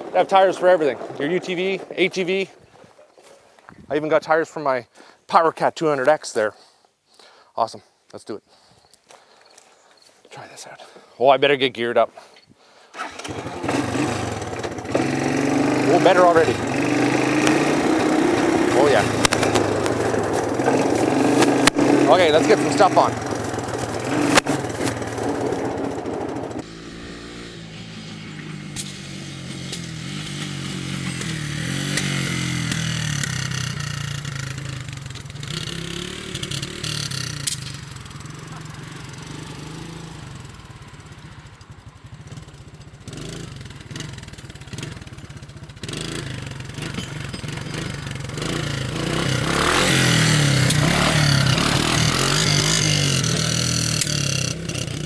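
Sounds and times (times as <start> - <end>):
motorcycle engine revving: 0.0 - 2.5, 13.0 - 55.0.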